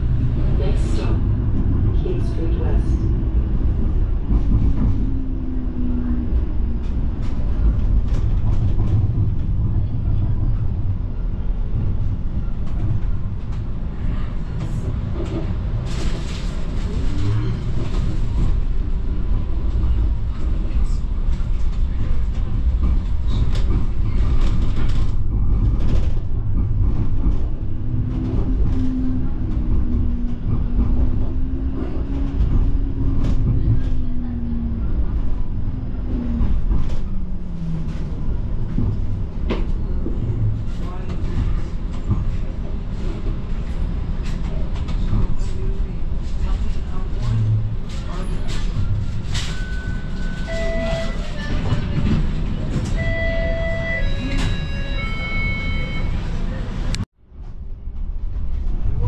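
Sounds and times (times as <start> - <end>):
streetcar rumbling on rails: 0.0 - 59.0.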